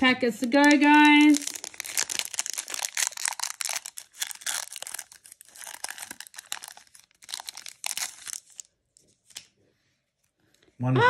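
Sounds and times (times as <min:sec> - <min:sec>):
foil wrapper crinkling and tearing: 0:00.4 - 0:09.5.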